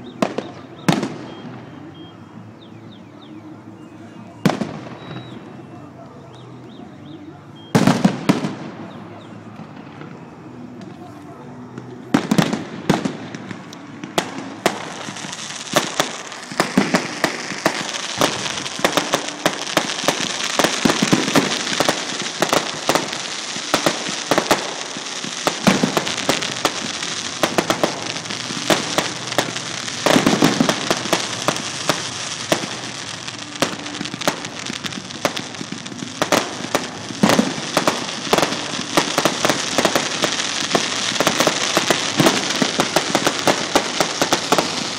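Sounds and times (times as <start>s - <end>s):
fireworks bangs and crackling: 0.0s - 2.6s, 3.5s - 44.9s.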